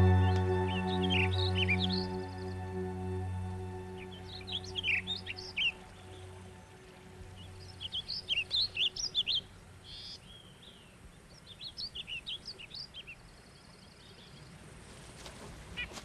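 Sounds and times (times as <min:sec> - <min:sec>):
small songbirds chirping: 0:00.0 - 0:14.8.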